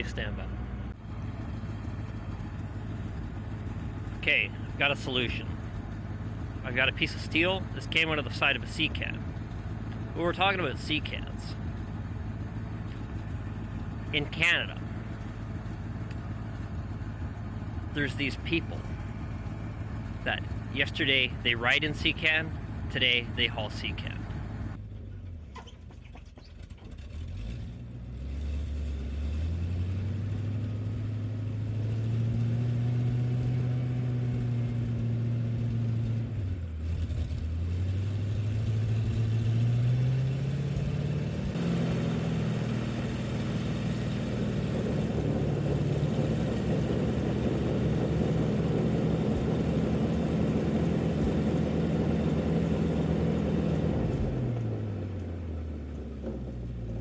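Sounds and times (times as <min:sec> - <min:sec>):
truck engine revving: 0:00.0 - 0:24.8, 0:26.0 - 0:57.0.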